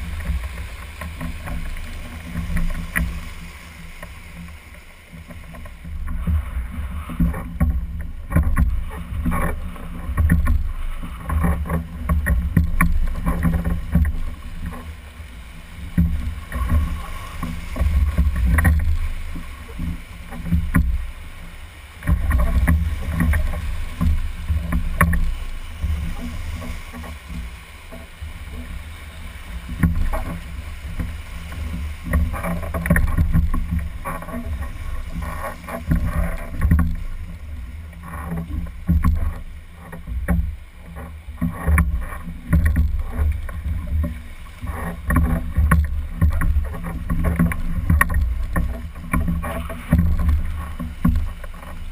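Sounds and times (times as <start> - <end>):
sharp splashes and knocks: 0.0 - 51.9
whitewater rushing and splashing: 0.0 - 51.9
low rumble on microphone: 5.2 - 51.9.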